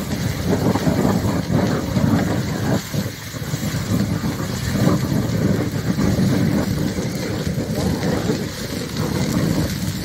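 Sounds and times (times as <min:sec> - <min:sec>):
fire crackling and rumbling: 0:00.0 - 0:10.0.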